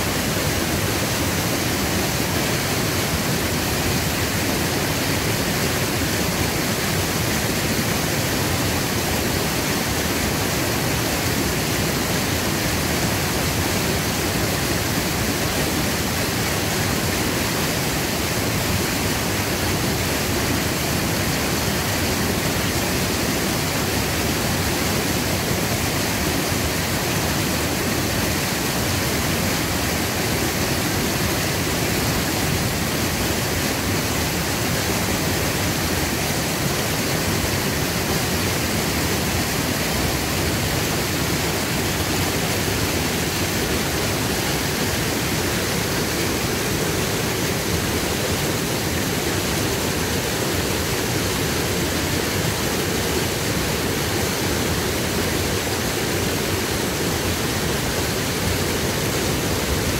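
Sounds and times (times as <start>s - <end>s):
creek rushing through rapids: 0.0s - 59.9s.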